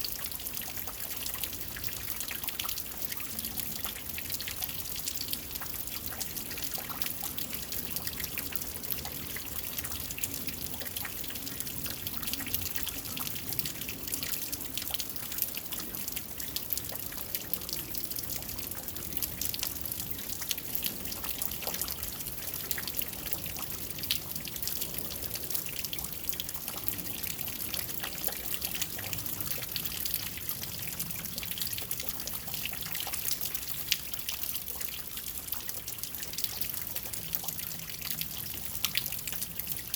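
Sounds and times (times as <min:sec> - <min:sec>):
rain pattering: 0:00.0 - 0:39.9
water trickling and dripping: 0:00.0 - 0:39.9.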